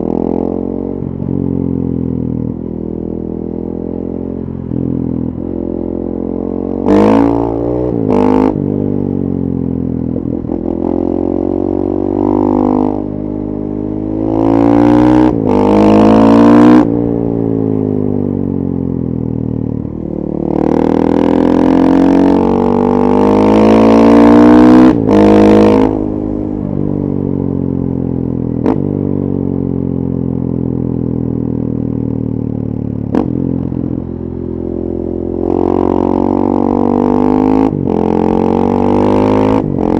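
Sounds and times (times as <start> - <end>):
motorcycle engine revving: 3.6 - 39.9.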